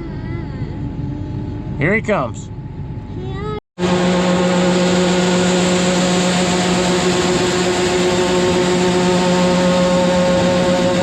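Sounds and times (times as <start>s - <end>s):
mechanical drone with hum: 0.0s - 11.0s.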